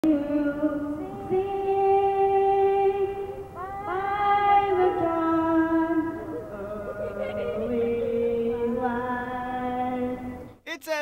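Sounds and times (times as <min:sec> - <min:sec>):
girl singing into microphone: 0:00.0 - 0:10.4.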